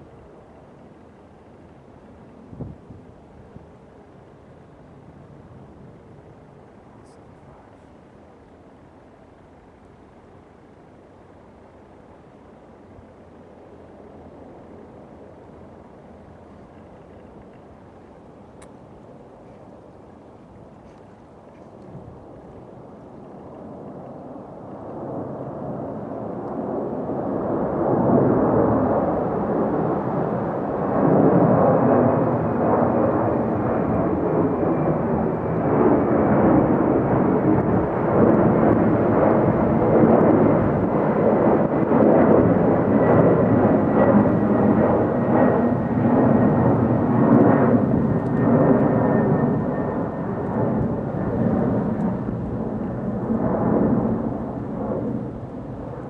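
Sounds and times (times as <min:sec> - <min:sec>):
jet engines passing: 0:00.0 - 0:56.0.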